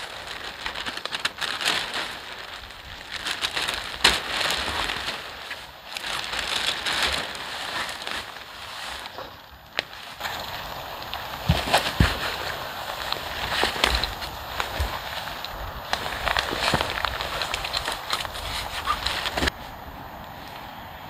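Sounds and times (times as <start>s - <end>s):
plastic sheet crinkling: 0.0s - 19.6s.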